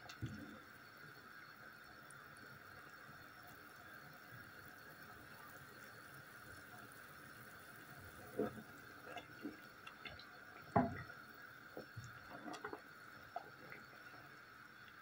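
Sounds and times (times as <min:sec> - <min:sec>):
water simmering with bubbling pops: 0:00.0 - 0:15.0.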